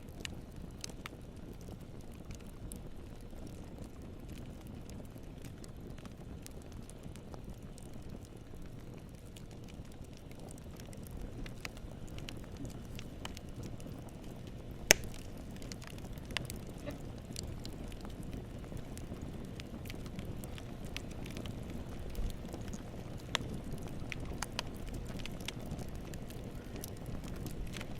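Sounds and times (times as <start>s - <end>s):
fire burning rumble: 0.0s - 27.9s
fire crackles and pops: 0.0s - 27.9s.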